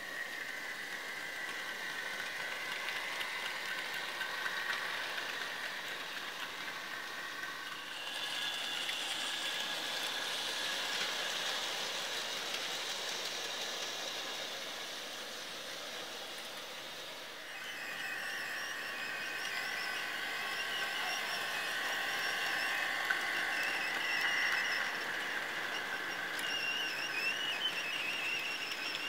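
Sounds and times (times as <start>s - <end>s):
model train motor whine: 0.0s - 29.0s
model train wheels rolling: 0.0s - 29.0s.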